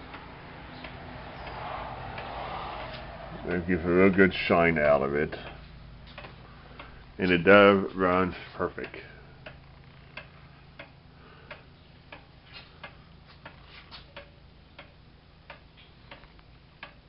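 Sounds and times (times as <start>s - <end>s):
pendulum wall clock ticking: 0.0s - 2.4s, 3.4s - 17.0s.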